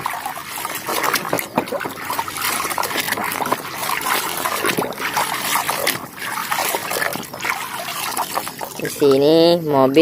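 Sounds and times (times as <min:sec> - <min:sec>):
water splashing and trickling: 0:00.0 - 0:09.7.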